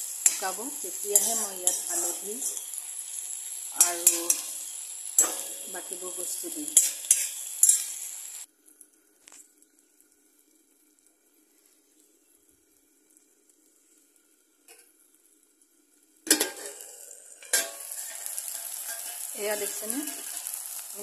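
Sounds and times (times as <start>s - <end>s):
food sizzling in oil: 0.0s - 8.5s, 11.6s - 21.0s.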